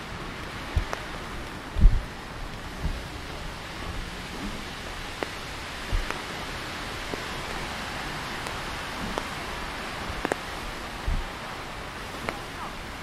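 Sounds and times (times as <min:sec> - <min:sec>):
rain on wet pavement: 0:00.0 - 0:13.0
raindrops ticking close by: 0:00.0 - 0:13.0.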